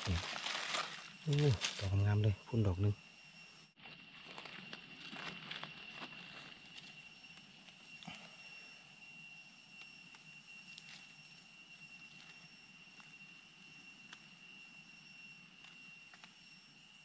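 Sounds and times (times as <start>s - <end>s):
high-pitched drone: 0.0s - 15.5s.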